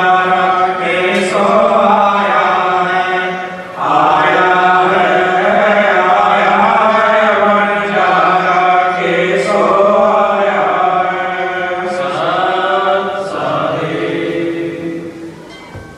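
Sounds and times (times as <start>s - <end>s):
voices chanting long sung notes: 0.0s - 15.9s.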